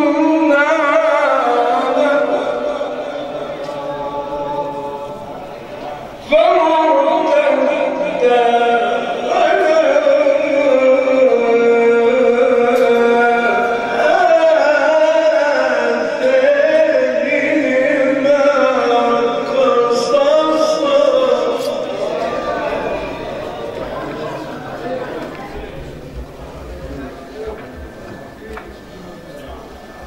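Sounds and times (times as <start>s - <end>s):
man singing ornamented vocal line: 0.0s - 25.0s.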